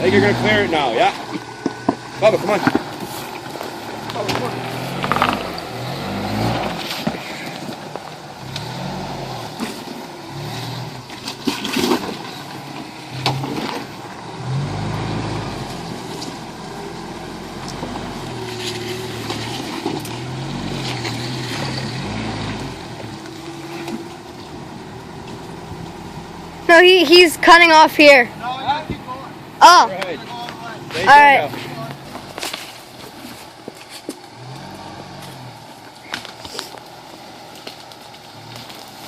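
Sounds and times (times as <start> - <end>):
truck engine revving: 0.0 - 39.0.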